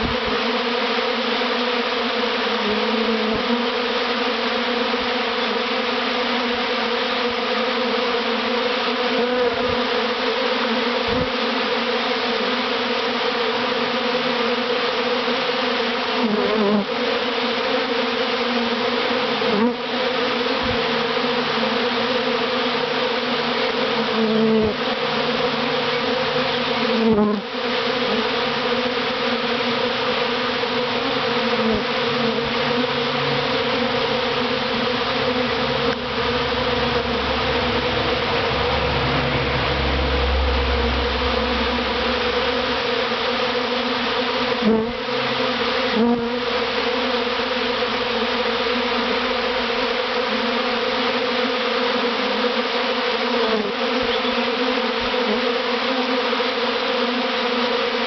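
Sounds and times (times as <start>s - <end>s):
bee swarm buzzing: 0.0s - 58.0s
single bee flying past: 0.0s - 58.0s.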